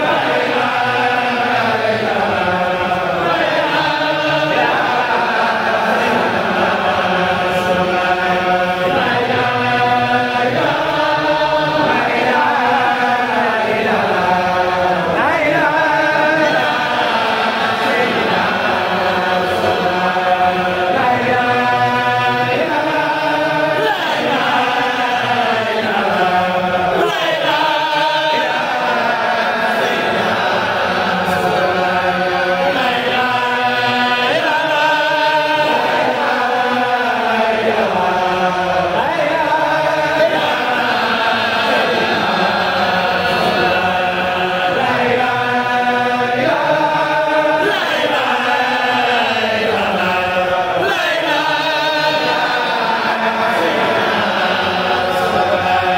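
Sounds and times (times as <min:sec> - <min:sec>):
men chanting: 0:00.0 - 0:55.9.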